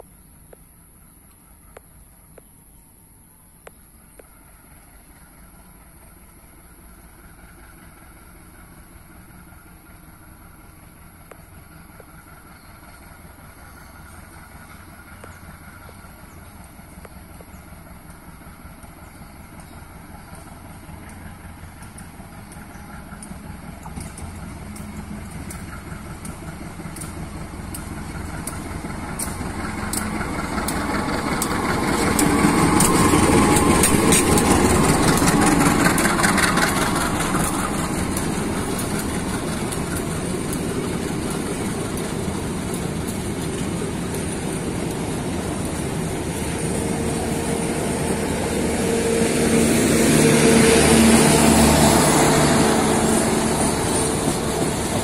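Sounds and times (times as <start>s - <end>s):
diesel locomotive passing: 0.0s - 55.0s
train carriages rolling past: 0.1s - 55.0s.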